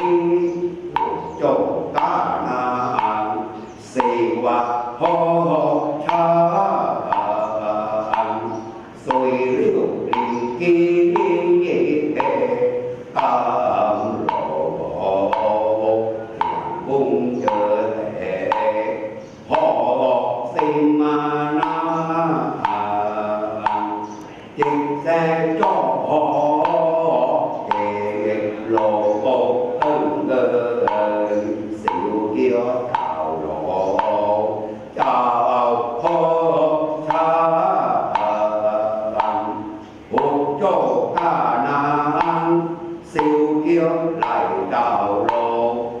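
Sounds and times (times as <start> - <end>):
sharp percussion strokes: 0.0 - 46.0
voices chanting in unison: 0.0 - 46.0
wooden block strikes: 0.0 - 46.0.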